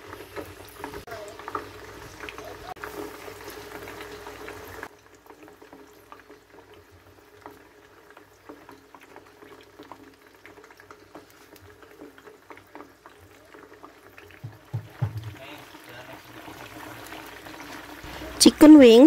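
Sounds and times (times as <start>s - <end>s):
oil popping and crackling: 0.0s - 19.0s
wings sizzling in hot oil: 0.0s - 19.0s.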